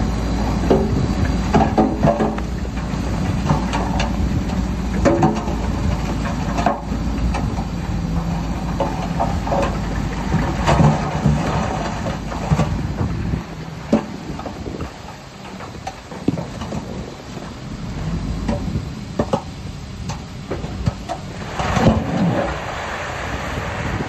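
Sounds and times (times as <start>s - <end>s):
diesel machine engine running: 0.0s - 24.0s.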